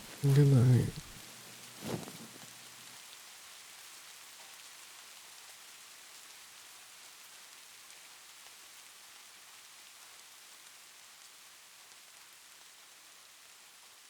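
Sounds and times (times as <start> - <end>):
rain hiss: 0.0 - 14.0.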